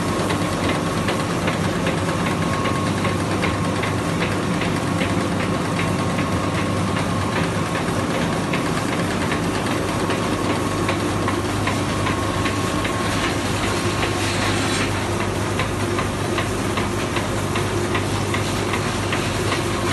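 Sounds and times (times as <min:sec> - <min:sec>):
printing press mechanical hum: 0:00.0 - 0:19.9.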